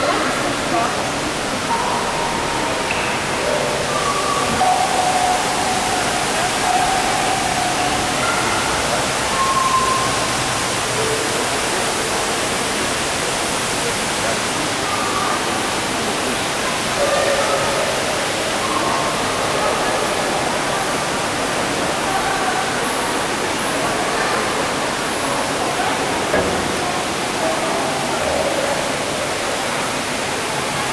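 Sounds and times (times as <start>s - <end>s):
faint voices: 0.0s - 30.9s
waterfall rushing: 0.0s - 30.9s.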